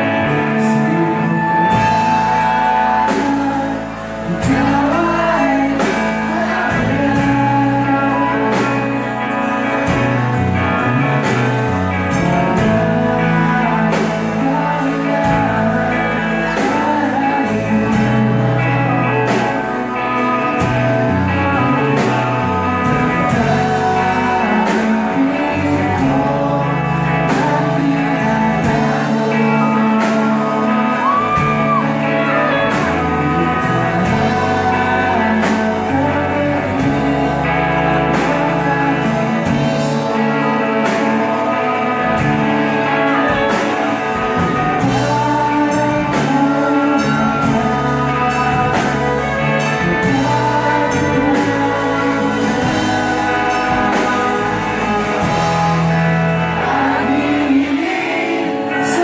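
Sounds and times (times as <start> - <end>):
live rock band playing: 0.0 - 59.0
person singing lead vocal: 0.0 - 59.0.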